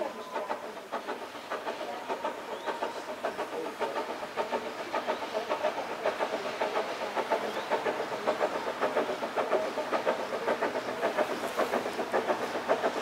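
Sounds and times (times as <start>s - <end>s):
steam train rhythmic beat: 0.0s - 13.0s.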